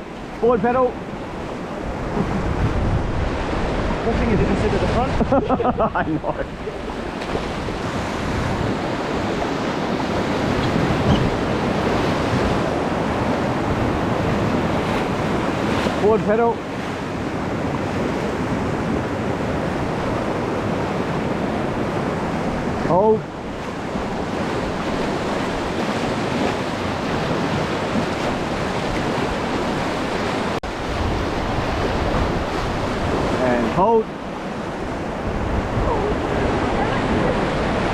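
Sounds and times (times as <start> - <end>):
wind buffeting microphone: 0.0 - 16.1, 16.7 - 37.9
river water rushing: 0.0 - 37.9
whitewater roaring: 0.0 - 37.9.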